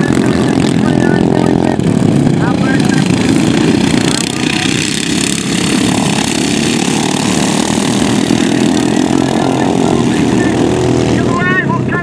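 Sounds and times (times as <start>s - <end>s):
lawnmower engines buzzing: 0.0s - 12.0s.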